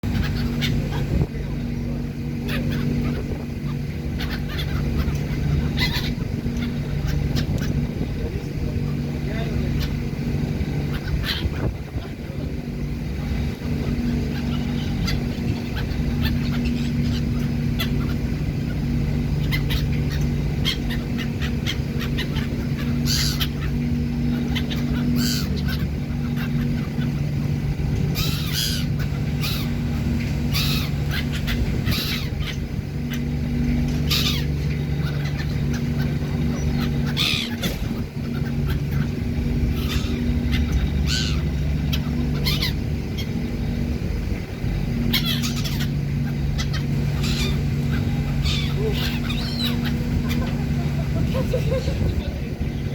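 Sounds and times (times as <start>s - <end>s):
ferry engines droning: 0.0s - 52.9s
seagulls calling: 0.0s - 52.9s.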